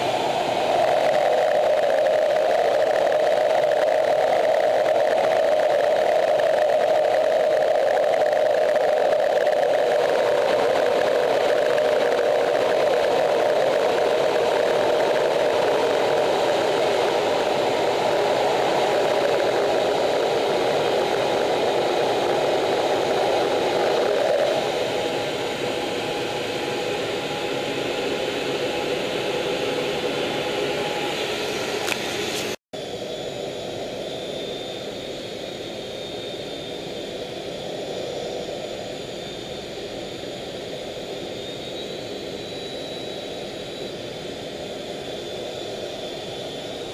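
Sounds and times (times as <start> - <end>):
faint high whine: 0.0 - 46.9
jet engine and airflow rushing: 0.0 - 46.9.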